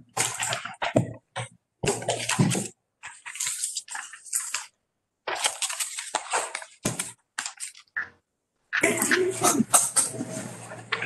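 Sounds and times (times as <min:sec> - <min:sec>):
rustling and handling noise: 0:00.0 - 0:11.0.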